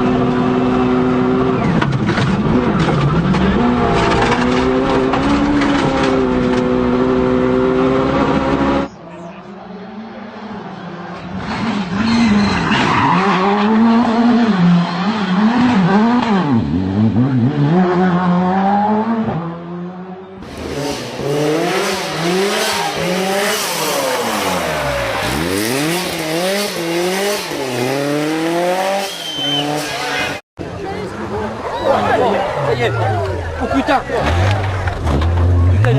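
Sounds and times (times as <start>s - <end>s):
rally car engine revving: 0.0s - 30.4s, 31.0s - 35.9s.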